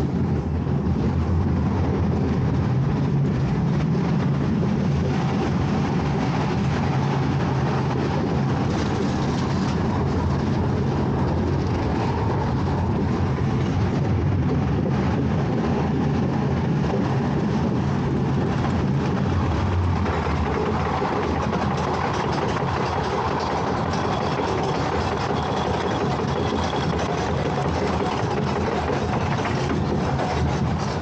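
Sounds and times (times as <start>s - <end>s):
roller coaster wheels rumbling: 0.0s - 31.0s.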